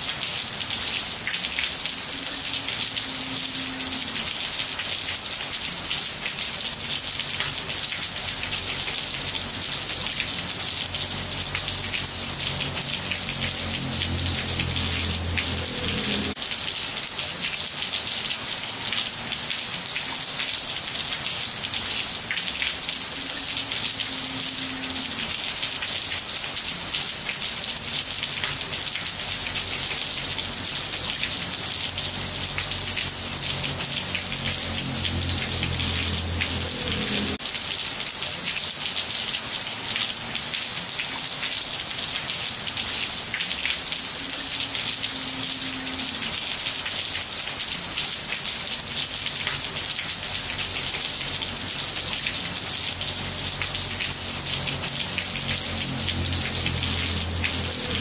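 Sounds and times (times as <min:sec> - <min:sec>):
rain on tiles: 0:00.0 - 0:58.0.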